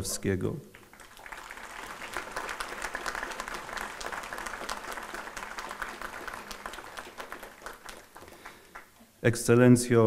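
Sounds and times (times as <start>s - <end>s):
crowd applauding: 0.7s - 9.0s.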